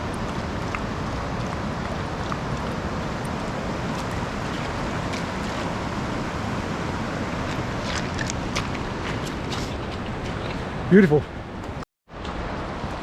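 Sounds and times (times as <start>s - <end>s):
rushing creek water: 0.0s - 13.0s.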